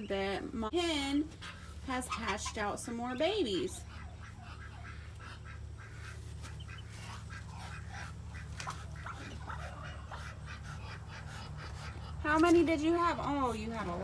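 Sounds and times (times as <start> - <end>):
duck and ducklings calling: 0.0 - 14.0.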